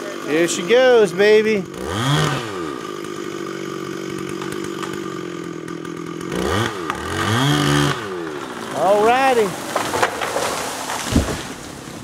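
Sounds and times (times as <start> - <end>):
chainsaw cutting at full throttle: 0.0 - 11.7.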